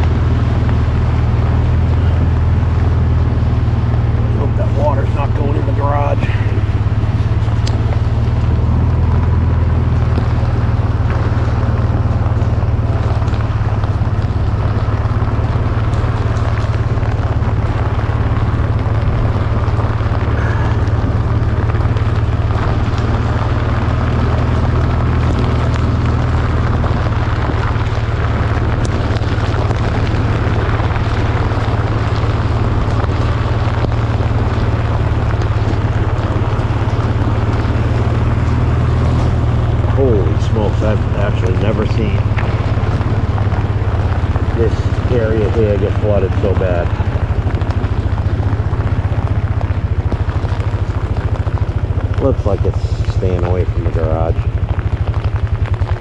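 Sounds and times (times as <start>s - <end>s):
heavy rain: 0.0s - 56.0s
low rumble on microphone: 0.0s - 56.0s.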